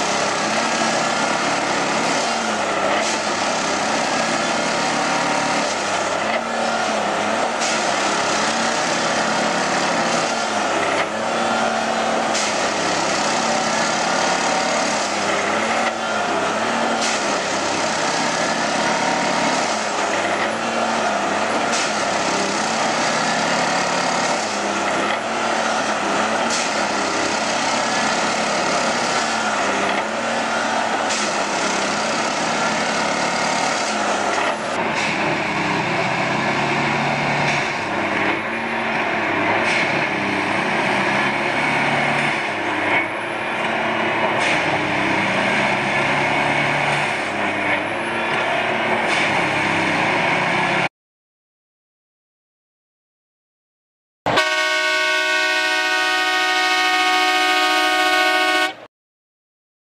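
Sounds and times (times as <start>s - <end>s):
diesel locomotive engine: 0.0s - 50.9s, 54.3s - 58.9s.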